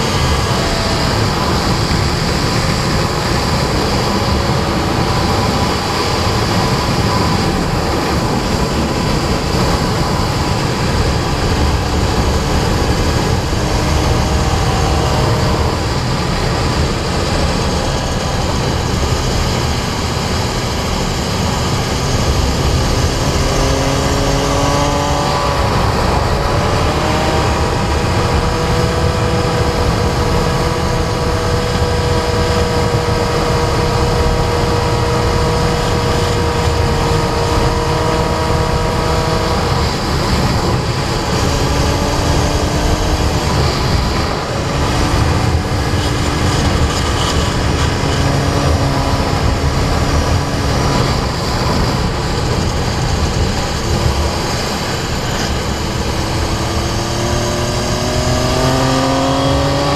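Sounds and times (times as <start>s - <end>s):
motorcycle engine running hard: 0.0s - 59.9s
wind rush on microphone: 0.0s - 59.9s.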